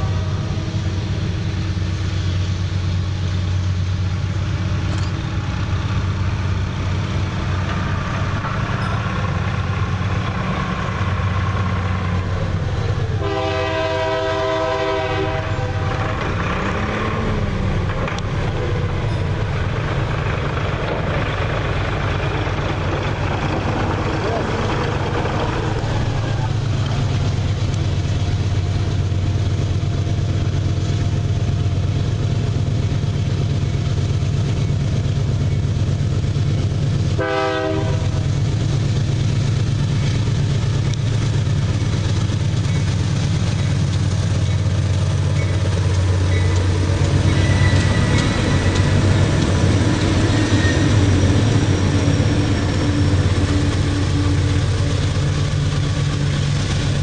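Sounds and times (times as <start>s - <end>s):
diesel locomotives droning: 0.0s - 57.0s.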